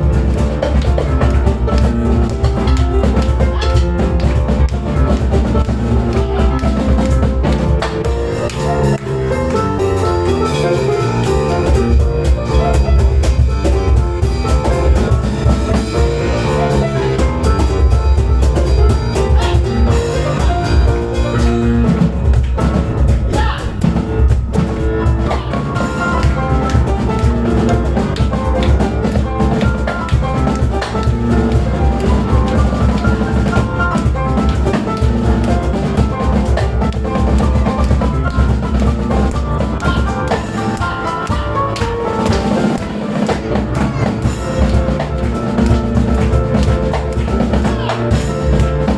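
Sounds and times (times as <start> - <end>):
drum kit and cajon drumming: 0.0 - 48.9
piano playing: 0.0 - 48.9.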